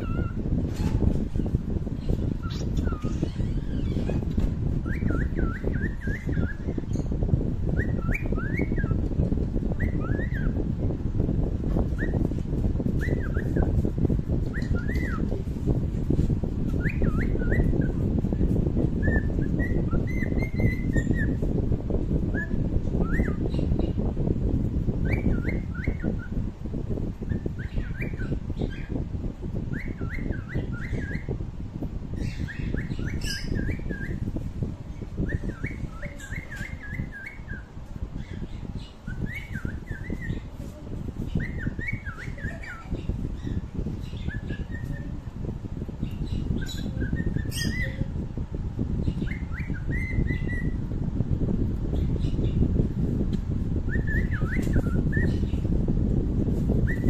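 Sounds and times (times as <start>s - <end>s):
low rumbling noise: 0.0s - 57.0s.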